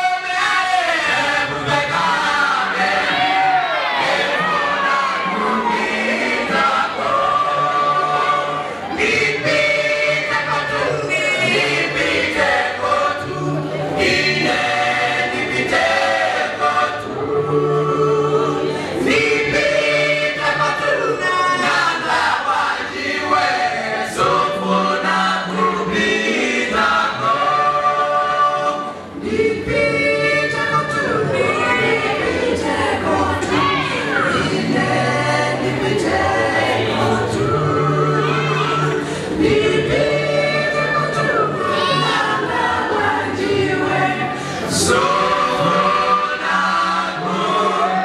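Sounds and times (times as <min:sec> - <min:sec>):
male a cappella group singing: 0:00.0 - 0:48.0.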